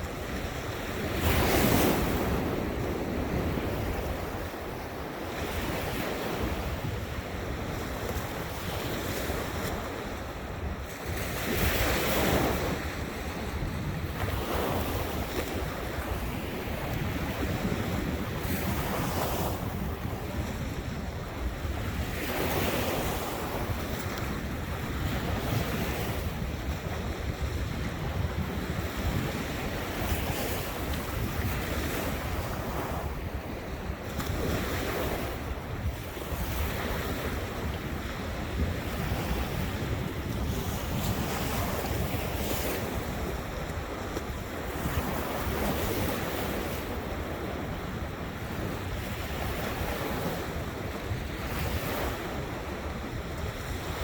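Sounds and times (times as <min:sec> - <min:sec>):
ocean waves breaking on beach: 0:00.0 - 0:54.0
wind buffeting microphone: 0:00.0 - 0:54.0.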